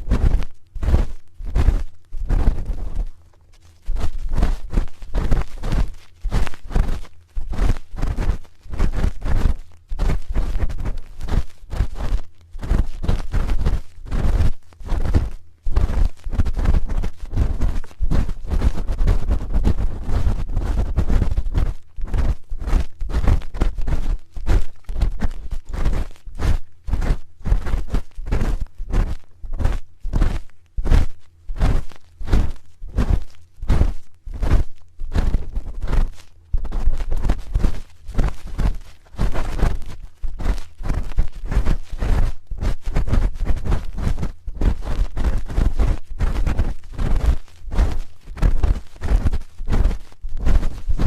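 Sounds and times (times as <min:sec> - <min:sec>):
microphone handling thumps: 0:00.0 - 0:51.0.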